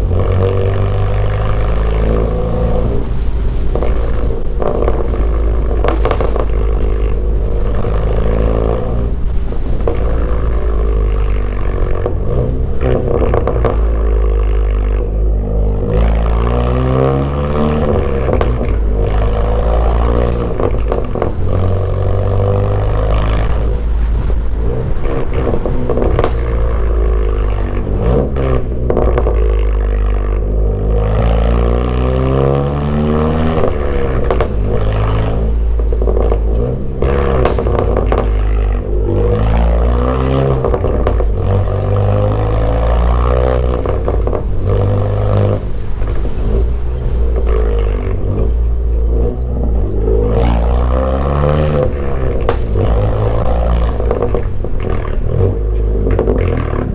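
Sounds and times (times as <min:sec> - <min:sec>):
car engine revving hard: 0:00.0 - 0:56.9.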